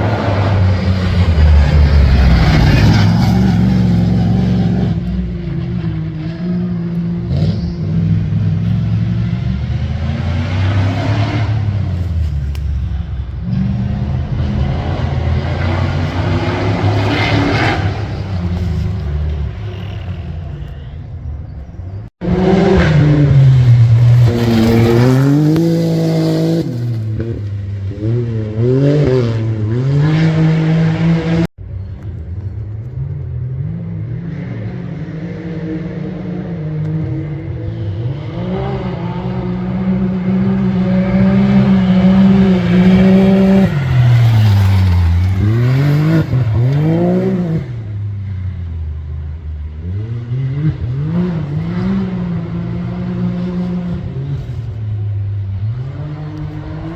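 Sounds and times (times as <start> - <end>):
off-road vehicle engine revving: 0.0 - 31.6, 32.8 - 56.9.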